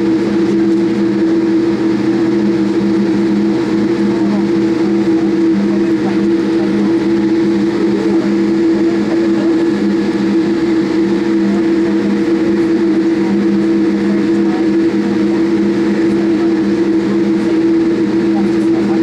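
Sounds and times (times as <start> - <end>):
airplane cabin engine noise: 0.0 - 19.0
steady low hum: 0.0 - 19.0.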